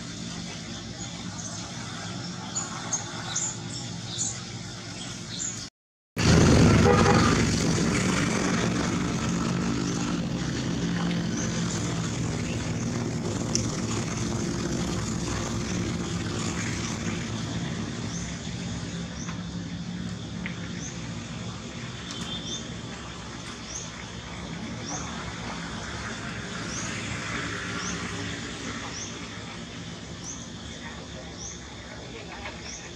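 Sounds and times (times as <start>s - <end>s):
steady engine drone: 0.0s - 32.9s.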